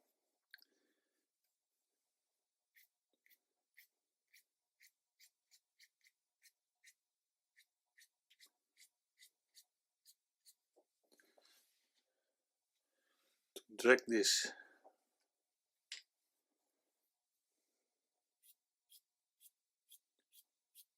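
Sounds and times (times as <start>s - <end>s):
brush strokes on paper: 0.0s - 12.1s, 16.2s - 20.9s.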